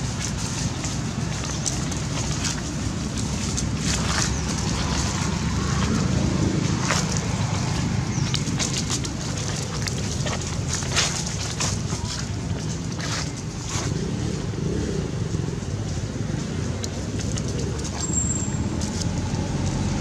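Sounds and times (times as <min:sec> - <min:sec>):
dry leaves crackling underfoot: 0:00.0 - 0:20.0
wind rumble on microphone: 0:00.0 - 0:20.0.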